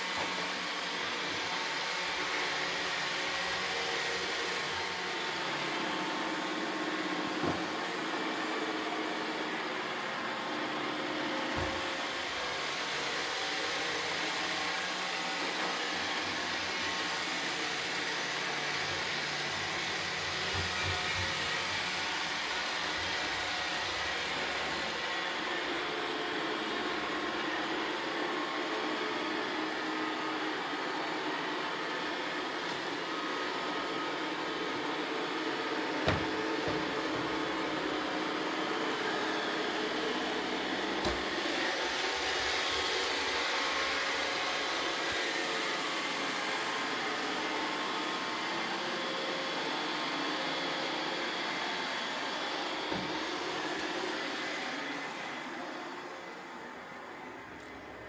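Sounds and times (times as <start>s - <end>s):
robot vacuum whirring: 0.0s - 56.1s.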